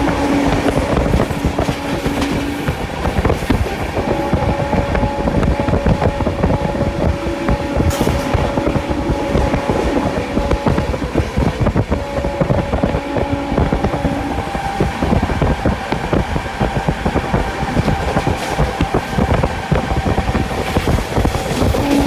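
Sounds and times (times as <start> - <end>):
train wheels rumbling on rails: 0.0 - 22.0
wind noise: 0.0 - 22.0.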